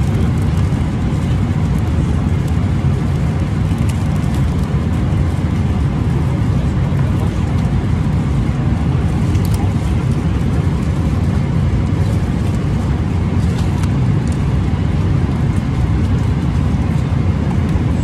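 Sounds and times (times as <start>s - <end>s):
airliner cabin roar: 0.0s - 18.0s.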